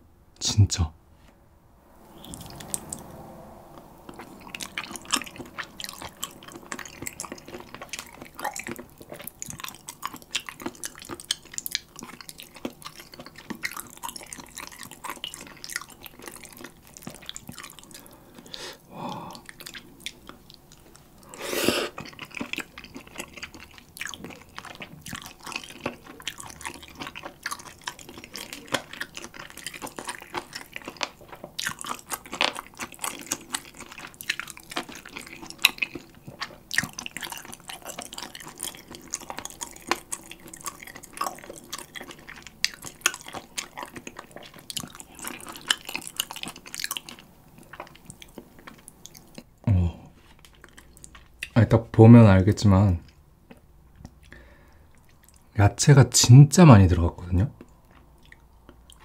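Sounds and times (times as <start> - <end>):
wet chewing: 2.1 - 51.7, 53.0 - 55.6, 57.5 - 59.0.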